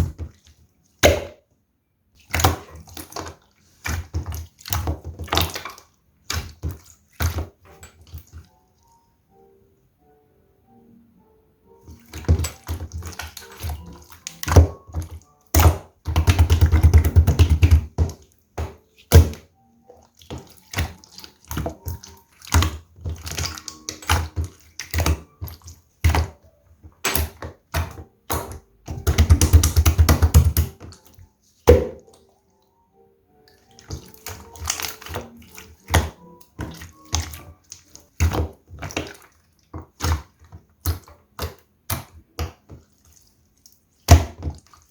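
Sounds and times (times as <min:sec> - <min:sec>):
slime squelching: 0:00.0 - 0:01.5, 0:02.1 - 0:09.4, 0:11.7 - 0:44.9.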